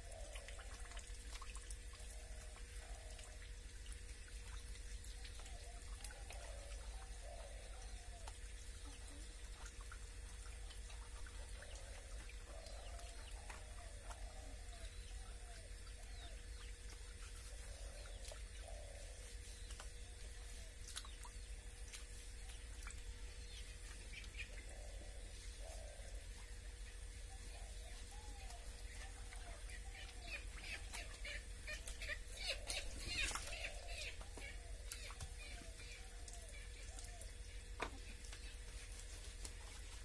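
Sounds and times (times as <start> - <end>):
faint bird calls: 4.6 - 9.8, 10.8 - 21.4, 22.3 - 38.9.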